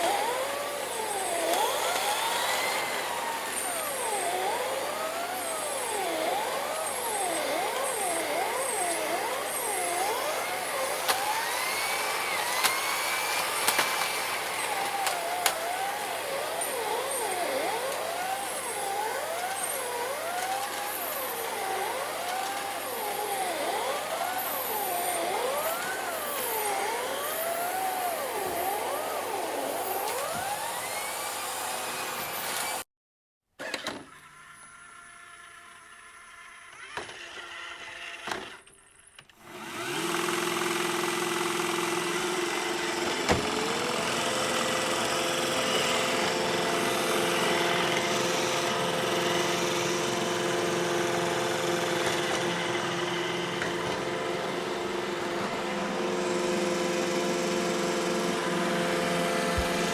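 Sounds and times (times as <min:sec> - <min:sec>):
vacuum cleaner motor whining: 0:00.0 - 0:32.8, 0:33.6 - 0:59.9.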